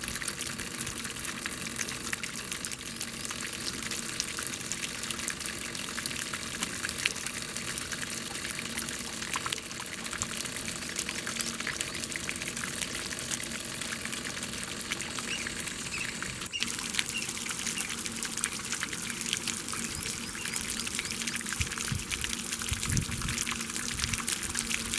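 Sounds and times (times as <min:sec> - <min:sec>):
water splashing and pouring: 0:00.0 - 0:24.9.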